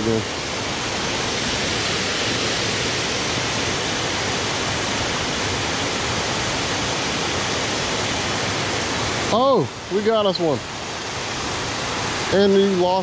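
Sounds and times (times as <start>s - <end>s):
water pouring over waterfall: 0.0s - 13.0s.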